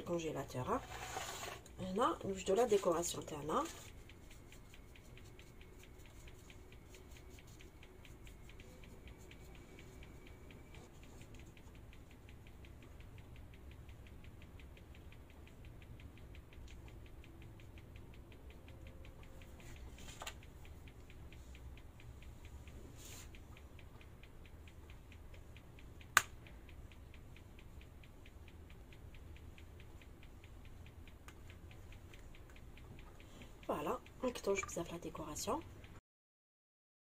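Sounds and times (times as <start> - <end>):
faint even ticking: 0.0 - 36.0.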